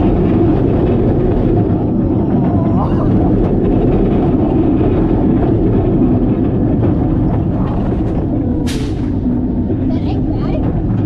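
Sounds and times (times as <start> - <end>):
roller coaster train rumbling: 0.0 - 11.0
wind rushing on microphone: 0.0 - 11.0.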